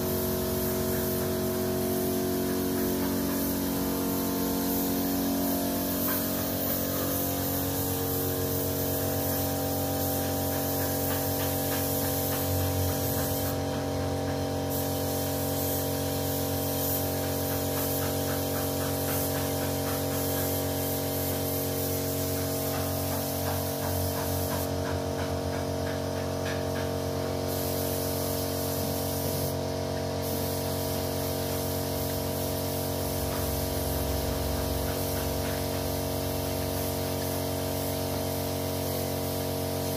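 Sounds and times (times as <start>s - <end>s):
air compressor humming: 0.0s - 39.9s
paint spray gun hissing: 0.0s - 39.9s.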